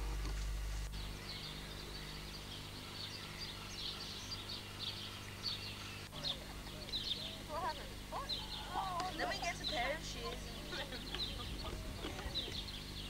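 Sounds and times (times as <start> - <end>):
birds chirping faintly: 0.0 - 13.0
electrical hum and hiss: 0.0 - 13.0.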